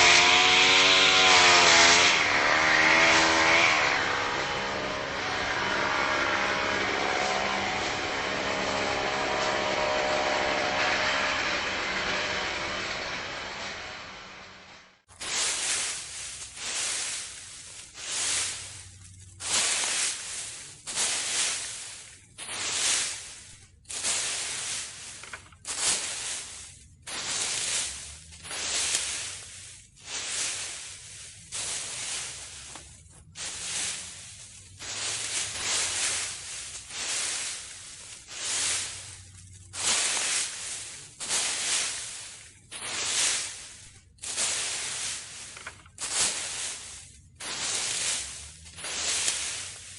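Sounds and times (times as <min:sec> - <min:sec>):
rake swishing through dry leaves: 0:00.0 - 0:13.9, 0:15.0 - 0:49.9.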